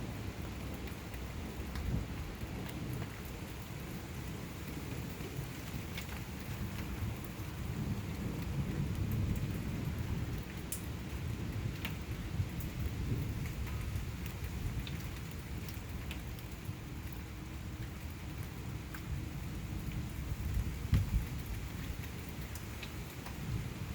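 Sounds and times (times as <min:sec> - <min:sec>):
low rumble of thunder: 0:00.0 - 0:23.9
steady rain: 0:00.0 - 0:23.9
sharp drips on surfaces: 0:00.2 - 0:23.9.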